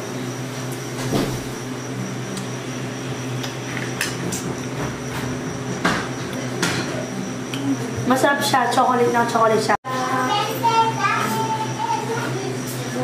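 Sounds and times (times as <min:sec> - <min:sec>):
electrical hum with high whine: 0:00.0 - 0:13.0.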